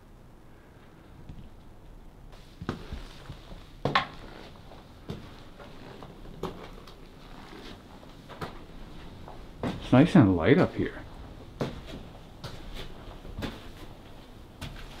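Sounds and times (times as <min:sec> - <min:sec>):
slow footsteps: 0:00.8 - 0:15.0.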